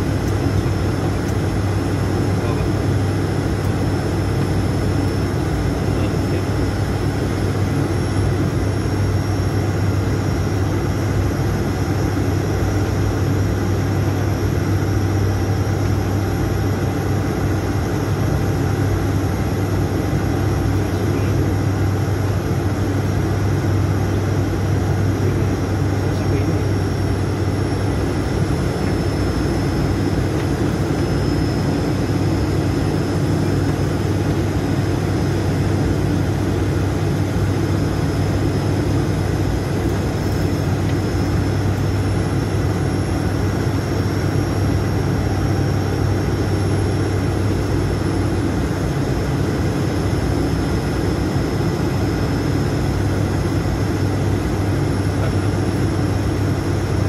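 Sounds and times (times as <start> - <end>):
turboprop engines humming: 0.0 - 57.0.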